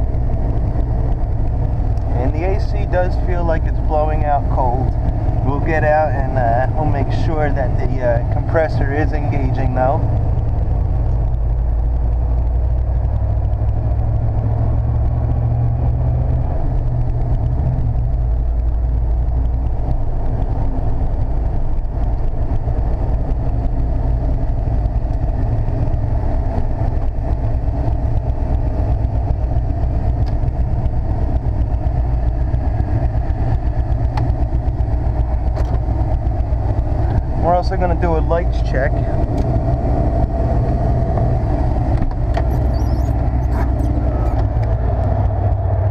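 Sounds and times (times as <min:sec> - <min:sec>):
engine drone: 0:00.0 - 0:45.9
road noise inside cab: 0:00.0 - 0:45.9.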